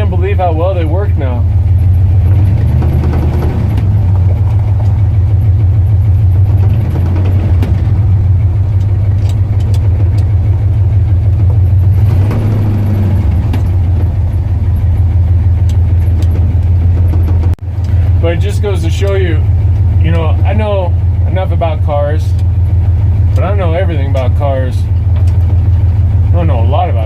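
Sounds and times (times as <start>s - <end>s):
pickup truck engine rumbling: 0.0s - 27.0s.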